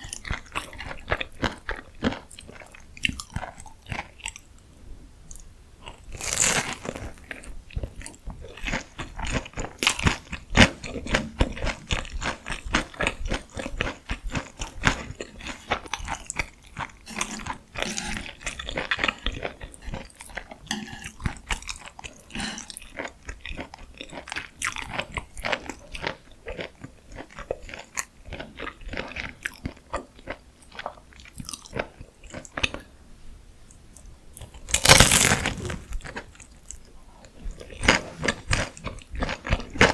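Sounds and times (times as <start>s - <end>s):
chewing crunchy fried food: 0.0s - 4.7s, 5.3s - 33.0s, 33.7s - 39.9s.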